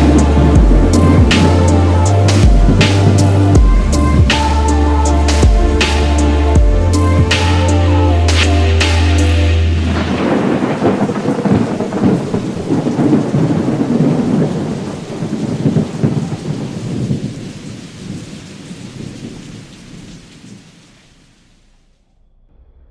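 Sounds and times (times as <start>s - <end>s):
rolling thunder: 0.0s - 20.7s
rain hissing: 0.0s - 22.0s.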